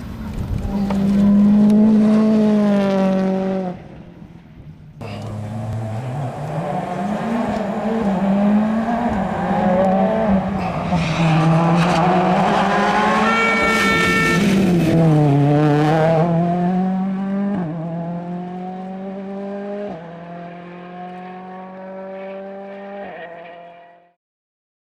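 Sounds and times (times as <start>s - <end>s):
rally car engine accelerating: 0.0s - 4.2s, 5.0s - 24.1s.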